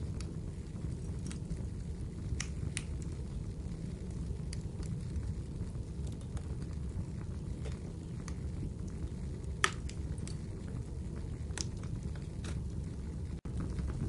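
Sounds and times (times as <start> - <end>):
sharp fire pops: 0.0 - 14.0
wood fire crackling: 0.0 - 14.0.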